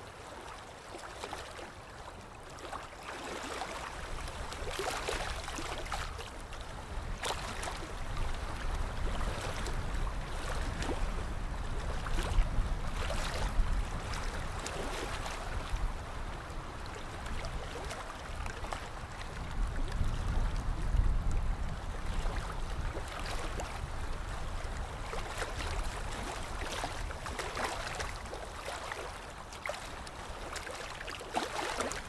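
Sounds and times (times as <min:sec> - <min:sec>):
water lapping and splashing: 0:00.0 - 0:32.0.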